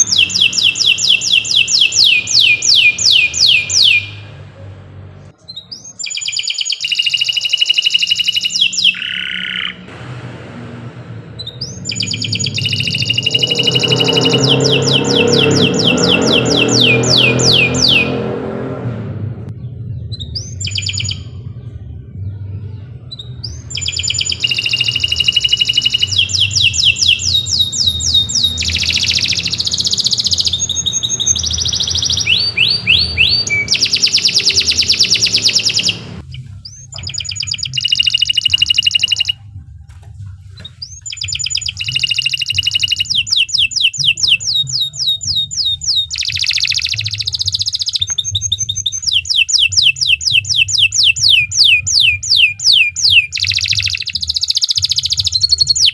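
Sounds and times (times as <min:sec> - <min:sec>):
canary singing trills: 0:00.0 - 0:09.9, 0:11.4 - 0:18.4, 0:19.6 - 0:39.5, 0:40.5 - 0:55.9.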